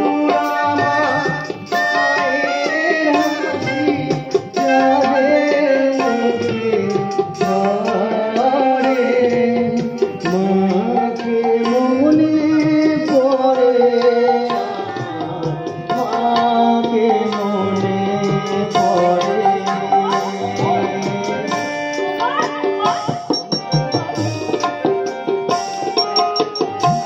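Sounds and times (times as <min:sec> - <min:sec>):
tabla strokes: 0:00.2 - 0:27.0.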